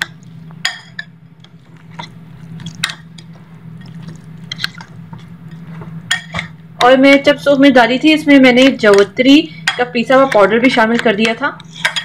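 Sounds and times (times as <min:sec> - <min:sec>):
spoon stirring wet paste: 0:00.0 - 0:07.0, 0:08.8 - 0:12.0
steady low hum: 0:00.0 - 0:12.0.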